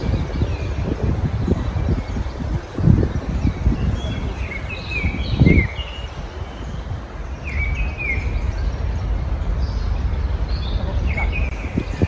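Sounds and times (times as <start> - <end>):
low background rumble: 0.0 - 12.0
small birds chirping: 0.0 - 12.0.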